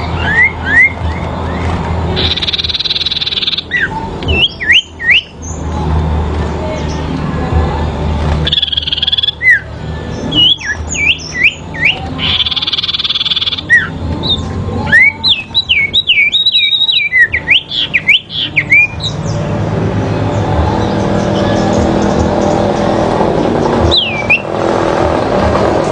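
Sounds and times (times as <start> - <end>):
songbirds whistling calls: 0.0 - 7.2, 8.4 - 25.0.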